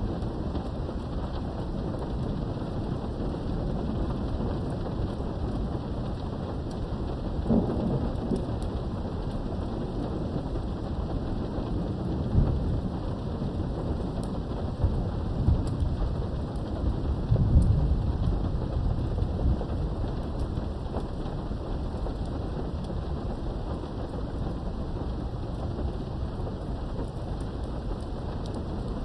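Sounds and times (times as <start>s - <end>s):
rain through a window: 0.0s - 29.0s
thunder rumbling: 0.0s - 29.0s.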